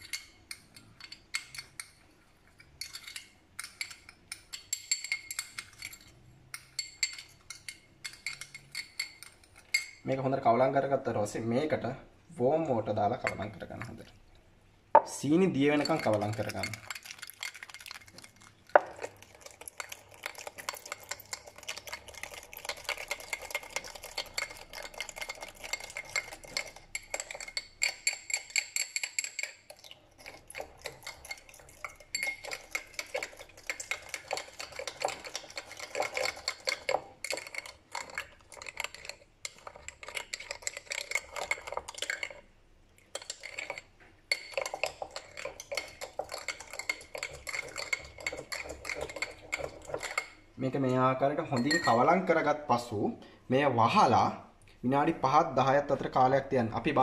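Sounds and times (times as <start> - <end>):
teaspoon clinking against glass bowl: 0.0 - 10.1, 13.1 - 13.9, 15.6 - 42.4, 43.1 - 52.4.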